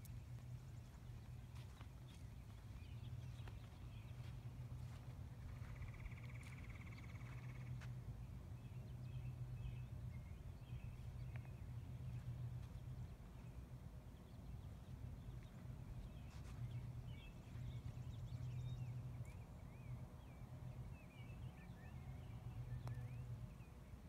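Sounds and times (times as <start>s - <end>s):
steady low rumble: 0.0s - 23.7s.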